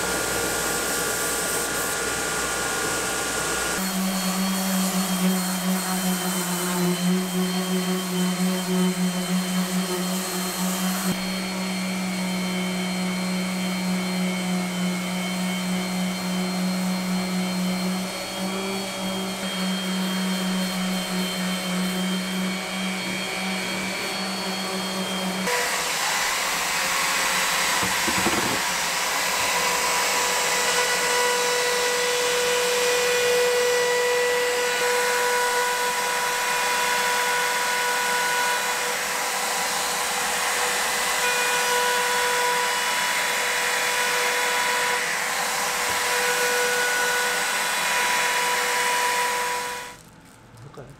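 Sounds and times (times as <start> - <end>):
orbital sander on wood: 0.0 - 50.0
router whine cutting wood: 0.0 - 50.0.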